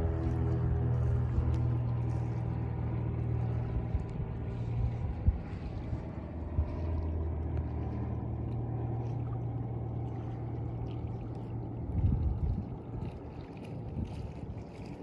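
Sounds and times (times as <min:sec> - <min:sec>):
brief low rumble: 0:00.0 - 0:12.7
outboard motor humming: 0:00.0 - 0:15.0.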